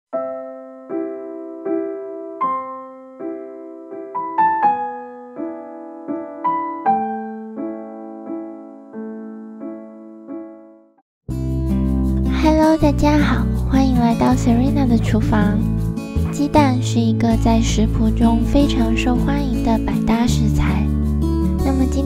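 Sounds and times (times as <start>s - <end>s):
gentle piano music: 0.1s - 22.0s.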